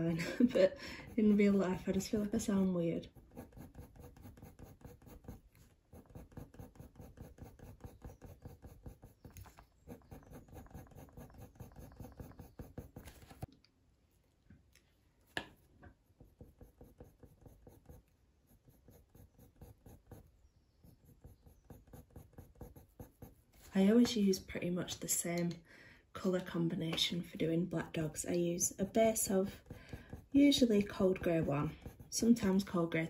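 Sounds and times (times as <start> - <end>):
pencil scratching on paper: 0.1 - 13.5, 16.0 - 24.2, 27.9 - 33.0.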